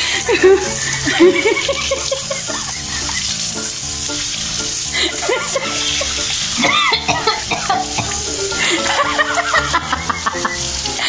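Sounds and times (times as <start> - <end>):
background music: 0.0 - 11.0
tap water running into sink: 0.0 - 11.0.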